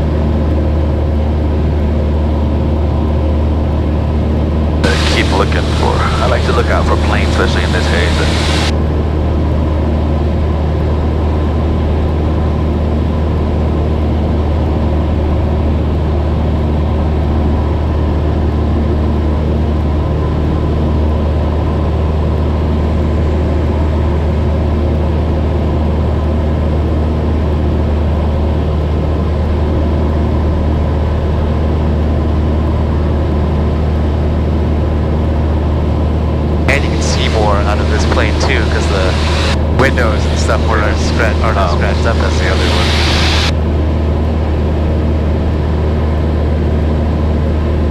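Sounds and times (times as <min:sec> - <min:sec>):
propeller plane engine drone in cabin: 0:00.0 - 0:47.9.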